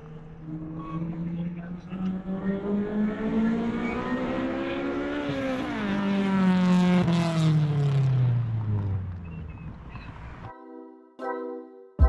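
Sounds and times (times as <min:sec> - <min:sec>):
car engine accelerating: 0:00.0 - 0:10.5.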